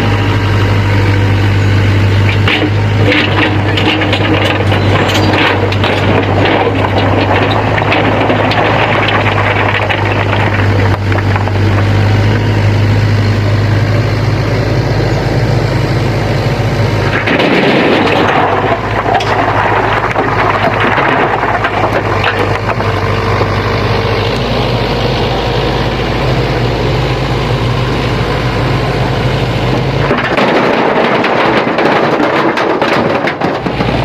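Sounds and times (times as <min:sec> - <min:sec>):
excavator diesel engine humming: 0:00.0 - 0:34.0
rough engine noise: 0:00.0 - 0:34.0.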